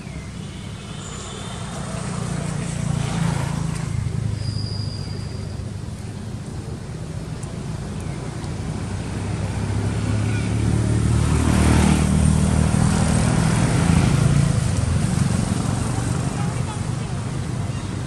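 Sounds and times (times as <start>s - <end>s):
vehicle engine humming past: 1.2s - 18.0s.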